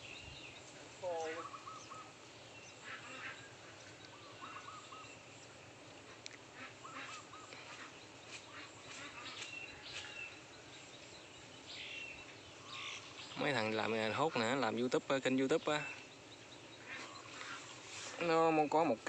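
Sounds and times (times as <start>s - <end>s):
birds calling faintly: 0.0s - 19.0s.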